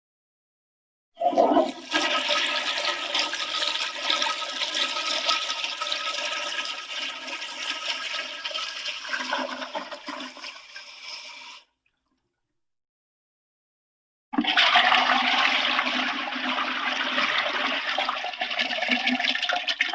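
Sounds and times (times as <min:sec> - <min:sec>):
toilet flushing: 0:01.2 - 0:11.7, 0:14.4 - 0:19.9.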